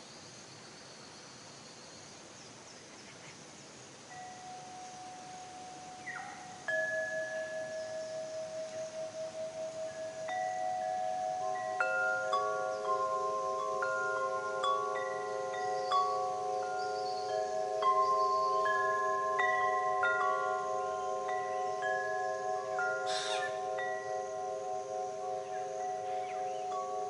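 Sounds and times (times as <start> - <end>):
wind chimes ringing: 4.1 - 27.0.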